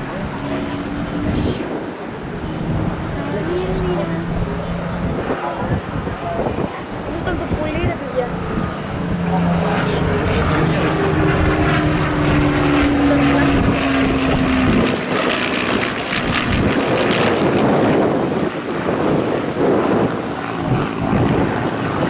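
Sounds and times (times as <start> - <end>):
propeller plane flying by: 0.0 - 22.0.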